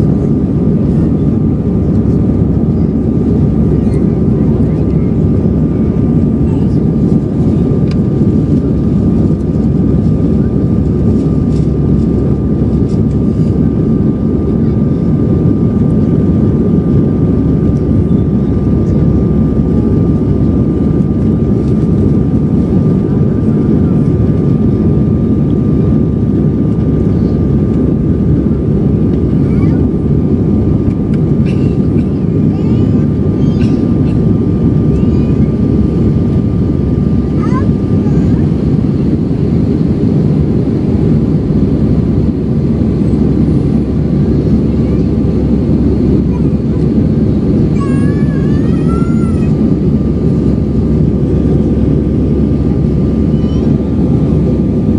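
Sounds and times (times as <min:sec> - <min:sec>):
jet engine roar in cabin: 0:00.0 - 0:54.9
thin steady whine: 0:00.0 - 0:54.9.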